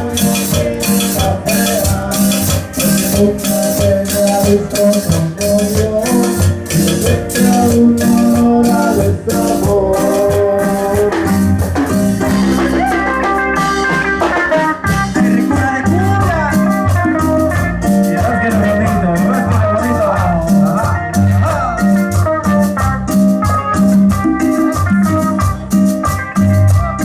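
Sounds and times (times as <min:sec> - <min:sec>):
band playing latin dance music: 0:00.0 - 0:27.0
electric guitar melody: 0:00.0 - 0:27.0.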